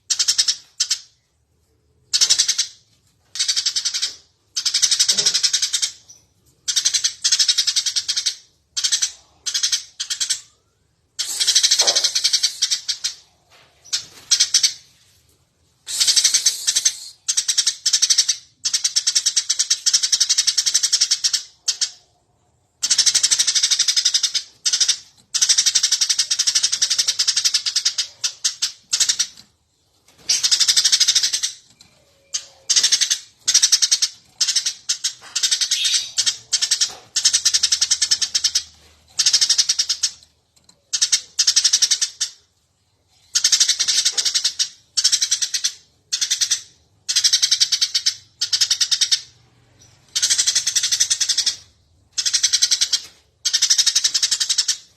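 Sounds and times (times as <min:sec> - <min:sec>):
sparrow chirping: 0:02.1 - 0:15.0, 0:15.9 - 0:22.1, 0:22.8 - 0:40.2, 0:43.3 - 0:54.9.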